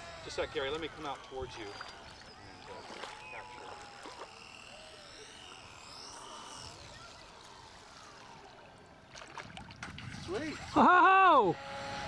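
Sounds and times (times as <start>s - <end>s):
model boat motors whining overhead: 0.0s - 12.0s.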